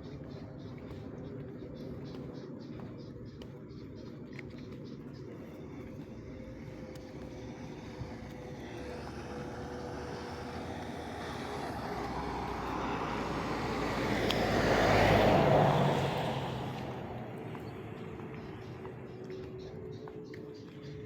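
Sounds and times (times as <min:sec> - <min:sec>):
motor vehicle passing: 0:00.0 - 0:21.0.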